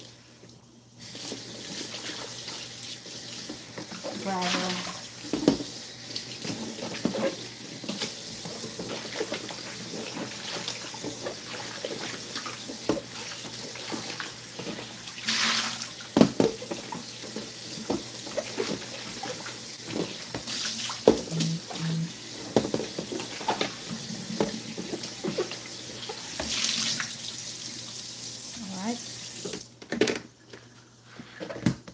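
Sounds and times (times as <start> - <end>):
faucet running into plastic basin: 1.0 - 29.7.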